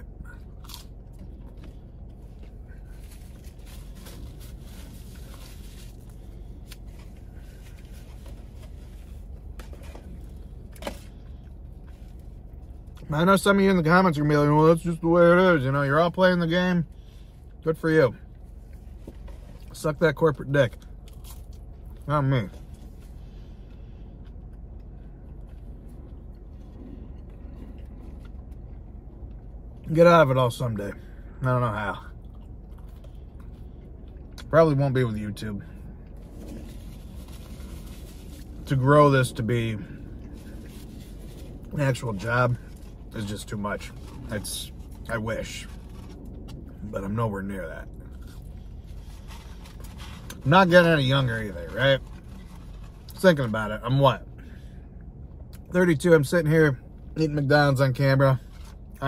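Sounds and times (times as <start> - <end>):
car cabin rumble: 0.0 - 59.0.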